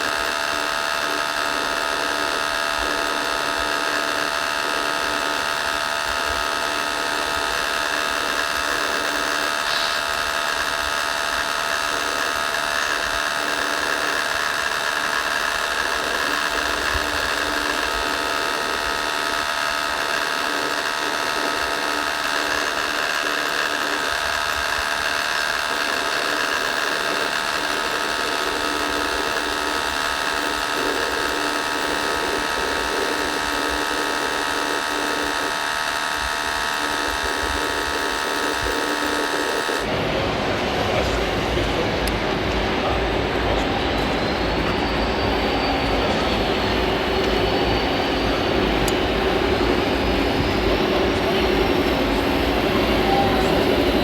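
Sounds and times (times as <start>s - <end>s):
electric motors whining: 0.0s - 54.0s.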